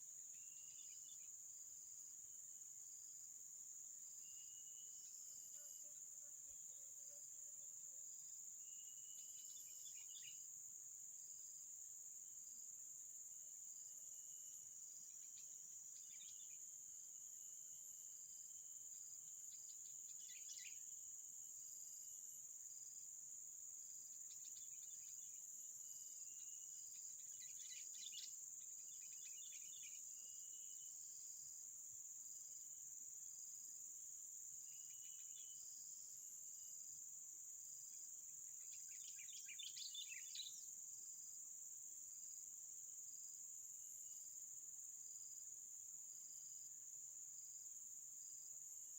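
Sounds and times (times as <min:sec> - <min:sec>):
insect chorus: 0:00.0 - 0:48.9.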